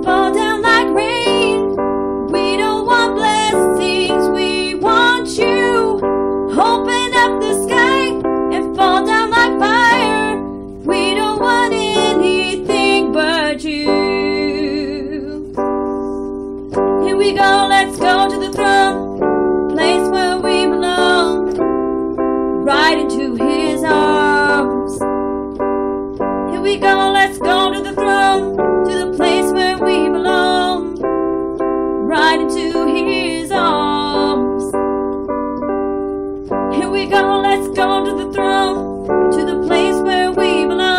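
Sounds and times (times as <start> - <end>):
woman singing: 0.0 - 15.6, 17.0 - 19.1, 19.7 - 21.6, 22.6 - 25.0, 26.5 - 31.0, 32.0 - 34.8, 36.7 - 40.9
sustained keyboard chords: 0.0 - 40.9.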